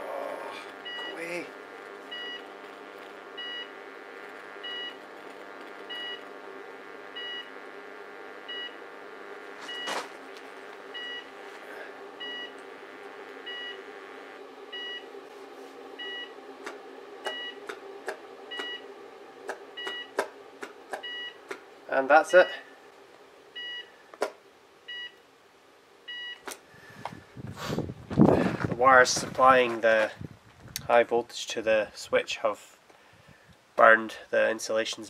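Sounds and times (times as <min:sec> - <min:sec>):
transformers humming: 0:00.0 - 0:24.6, 0:26.4 - 0:30.8.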